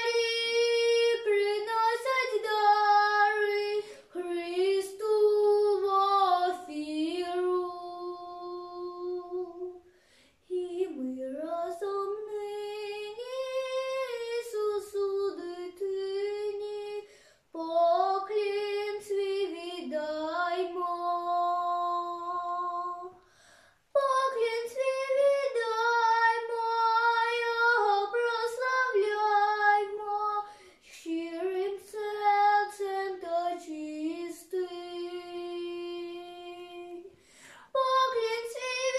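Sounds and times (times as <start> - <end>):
girl singing unaccompanied: 0.0 - 38.9.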